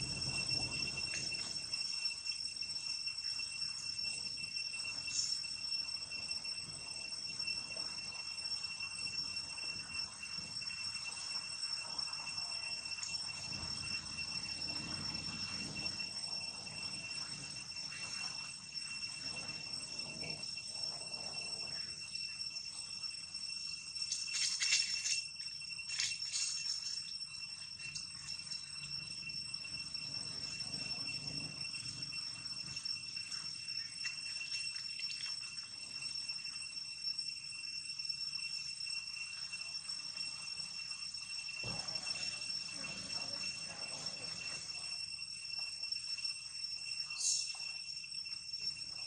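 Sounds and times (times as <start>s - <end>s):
forest insects droning: 0.0s - 49.0s.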